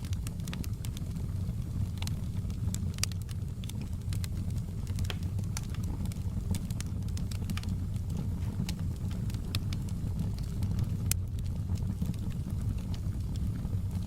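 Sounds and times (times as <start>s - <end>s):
low rumble of burning: 0.0s - 14.0s
wood fire crackling: 0.0s - 14.0s.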